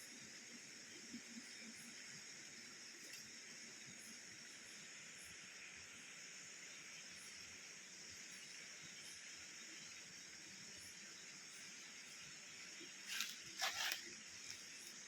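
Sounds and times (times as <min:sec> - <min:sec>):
insects chirring: 0:00.1 - 0:15.0.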